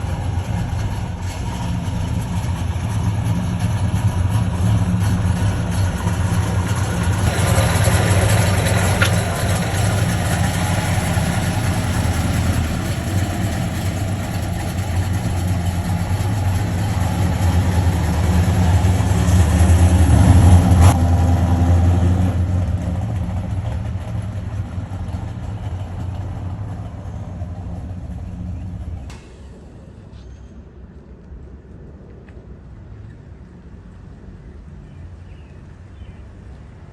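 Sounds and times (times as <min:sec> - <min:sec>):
vehicle engine idling: 0:00.0 - 0:31.3.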